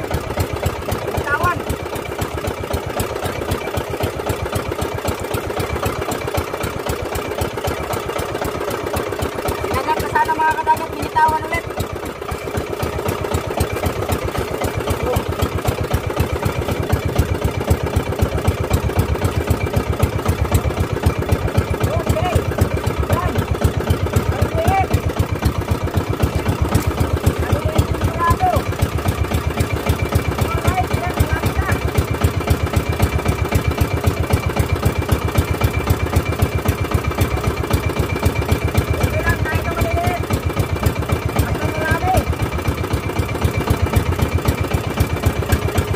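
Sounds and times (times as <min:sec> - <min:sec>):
small boat engine running: 0:00.0 - 0:45.9.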